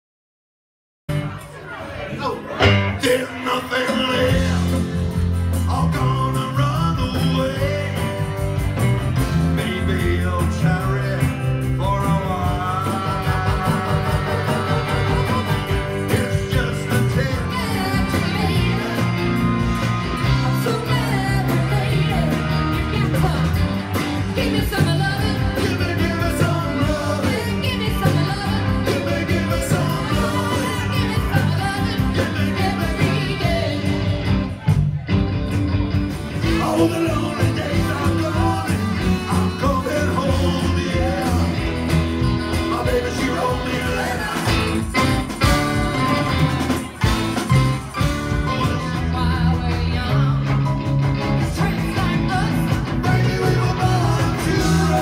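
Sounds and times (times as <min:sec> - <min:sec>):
live rock band playing: 0:01.1 - 0:55.0
person singing: 0:02.7 - 0:08.6, 0:09.2 - 0:34.6, 0:36.4 - 0:46.8, 0:51.4 - 0:55.0.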